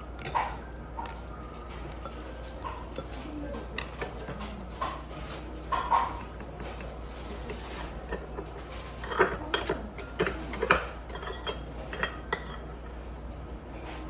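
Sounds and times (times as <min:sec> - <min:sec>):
utensils clinking against dishes: 0:00.0 - 0:14.0.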